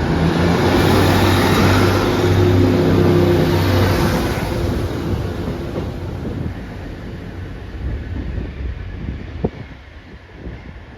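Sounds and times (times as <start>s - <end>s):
train engine running: 0.0s - 8.8s.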